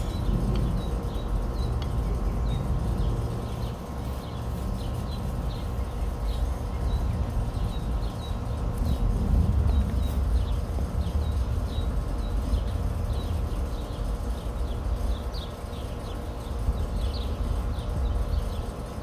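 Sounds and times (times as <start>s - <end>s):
bird chirping: 0.0s - 19.0s
steady low rumble: 0.0s - 19.0s.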